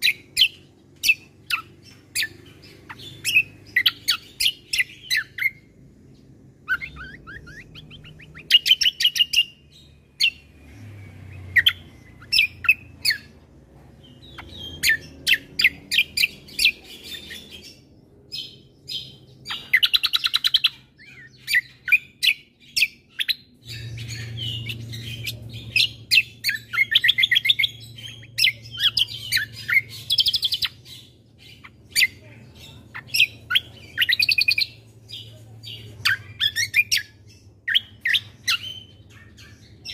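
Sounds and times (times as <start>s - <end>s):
faint low hum: 0.0s - 39.9s
songbird chirps and trills: 0.0s - 39.9s.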